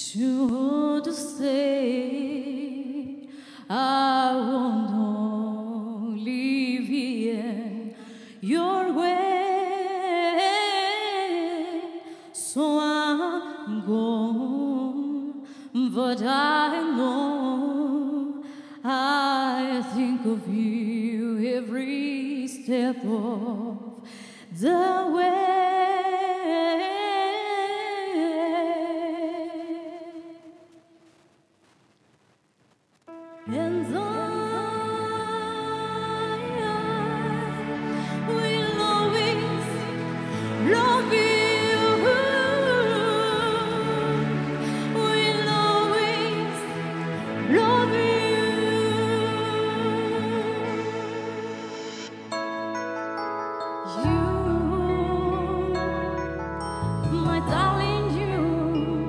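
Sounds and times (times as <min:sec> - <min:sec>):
woman singing a slow ballad: 0:00.0 - 0:30.4, 0:33.4 - 0:52.1, 0:53.9 - 0:56.3, 0:57.0 - 0:59.0.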